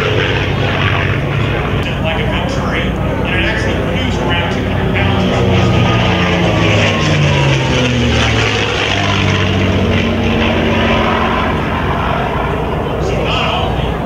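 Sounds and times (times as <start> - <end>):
propeller airplane droning past: 0.0 - 14.0.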